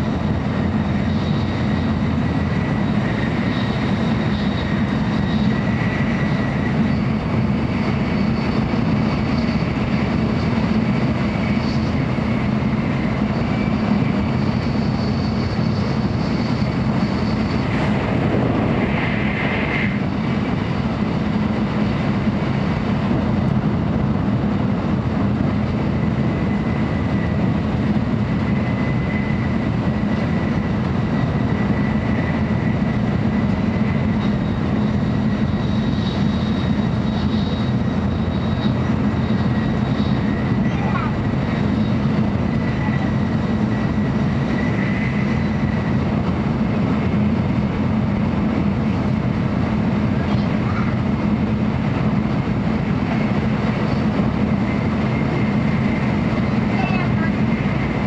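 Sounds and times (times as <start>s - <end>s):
train interior rumble and hiss: 0.0s - 58.0s.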